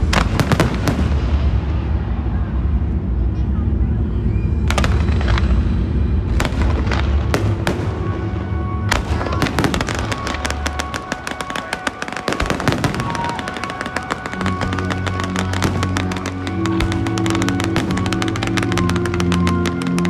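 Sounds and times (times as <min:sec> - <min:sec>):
rapid firework crackling: 0:00.0 - 0:02.0, 0:04.7 - 0:20.0
music: 0:00.0 - 0:20.0.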